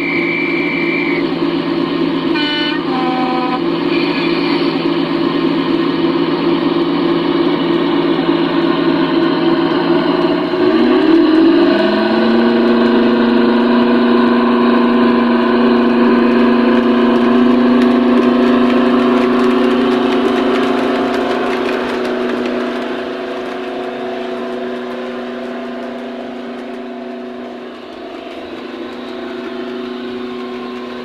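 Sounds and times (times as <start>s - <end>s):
model locomotive diesel engine drone: 0.0s - 31.0s.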